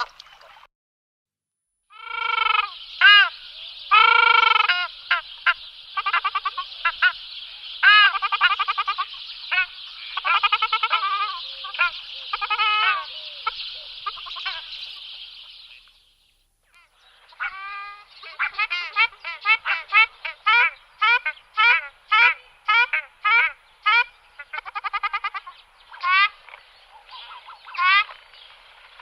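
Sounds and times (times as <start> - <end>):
geese honking: 2.0 - 15.8, 17.3 - 28.2.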